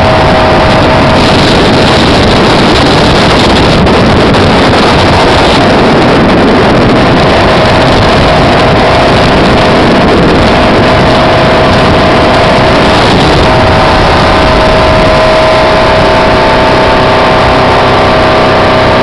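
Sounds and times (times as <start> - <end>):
speedboat engine whine: 0.0 - 19.0
water rushing: 0.0 - 19.0
wind buffeting microphone: 0.0 - 19.0.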